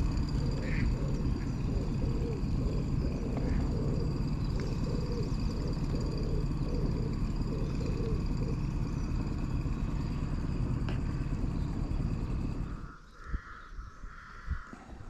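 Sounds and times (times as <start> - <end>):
motor whine: 0.0 - 13.6
boat motor rumbling: 0.0 - 14.2.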